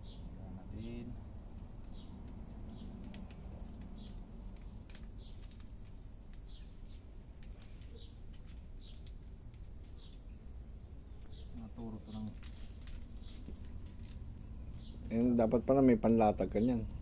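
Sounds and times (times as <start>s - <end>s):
low outdoor rumble: 0.0s - 17.0s
small bird chirping: 0.0s - 17.0s.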